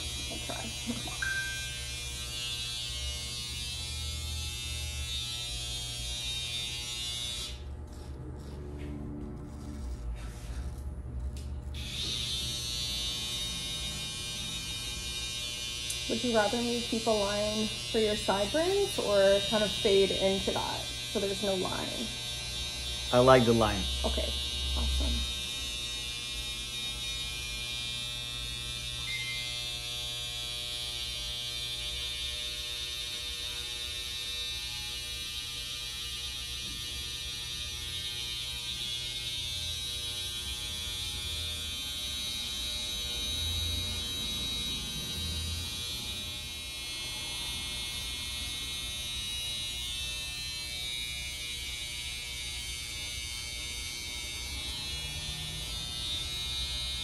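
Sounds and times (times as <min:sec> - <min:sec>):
electric hair clippers humming: 0:00.0 - 0:57.0.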